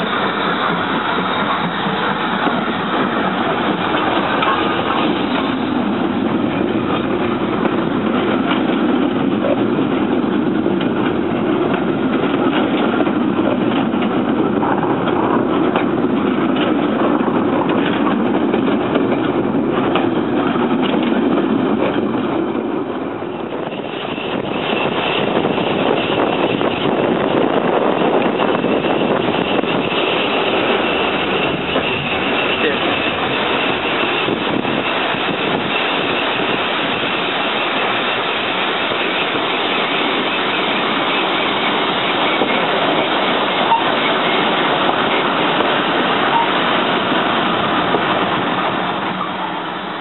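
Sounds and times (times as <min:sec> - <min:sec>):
steam train running: 0:00.0 - 0:50.0.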